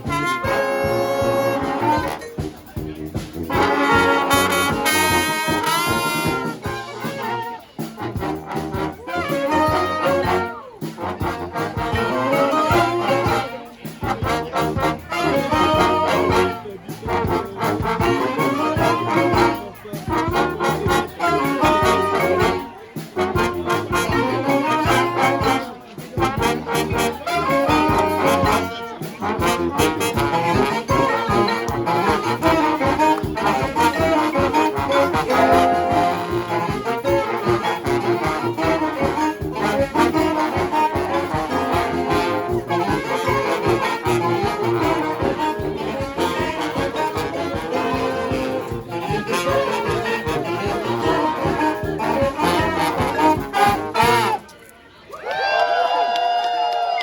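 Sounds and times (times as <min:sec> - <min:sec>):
brass band playing: 0:00.0 - 0:54.7.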